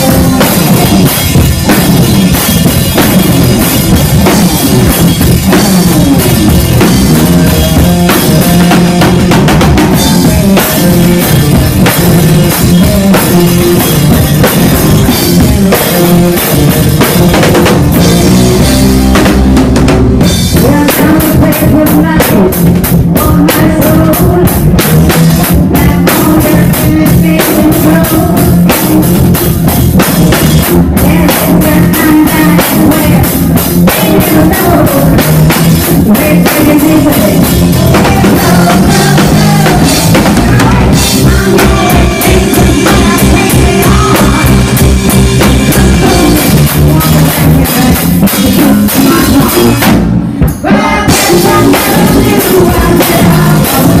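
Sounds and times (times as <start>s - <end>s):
loud drum kit: 0.0s - 54.0s
rock band playing: 0.0s - 54.0s.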